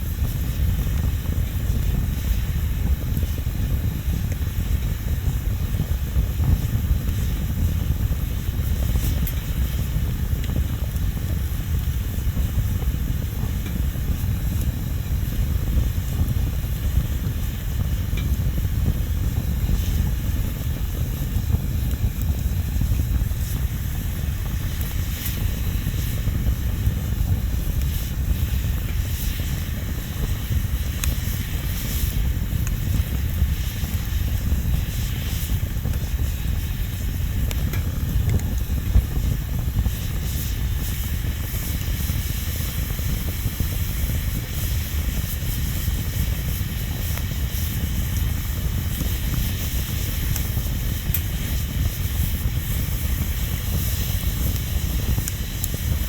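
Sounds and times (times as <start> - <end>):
bonfire rumbling and crackling: 0.0 - 56.0.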